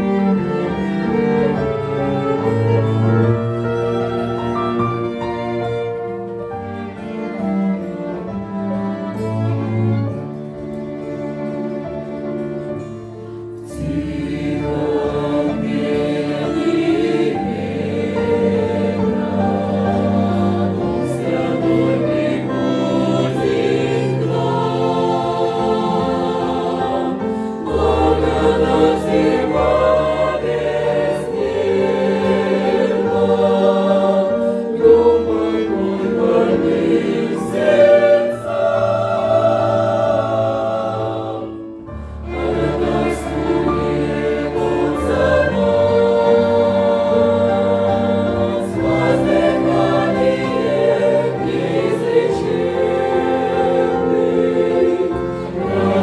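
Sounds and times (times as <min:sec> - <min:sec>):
church choir singing a hymn: 0:00.0 - 0:56.0
musical accompaniment: 0:00.0 - 0:56.0.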